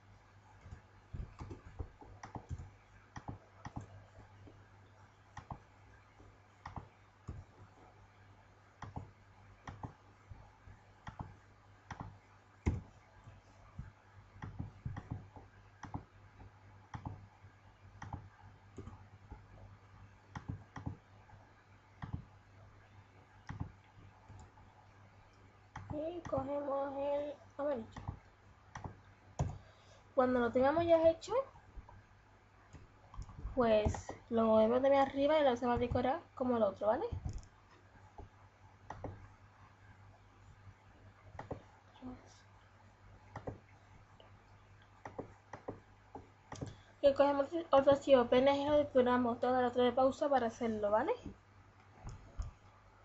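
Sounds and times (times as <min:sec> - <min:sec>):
faint low hum: 0:00.0 - 0:53.0.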